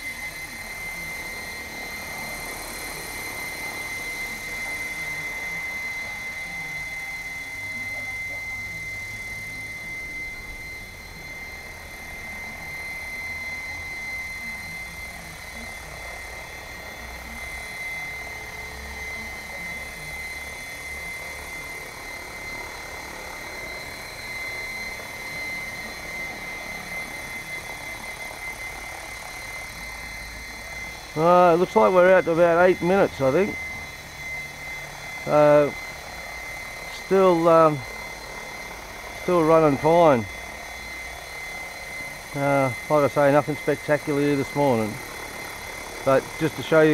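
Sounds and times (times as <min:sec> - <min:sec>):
rc helicopter flying: 0:00.0 - 0:46.9.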